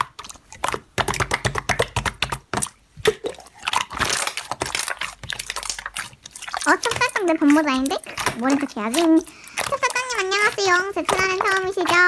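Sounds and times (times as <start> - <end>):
slime sticky pops and crackles: 0.0 - 12.0.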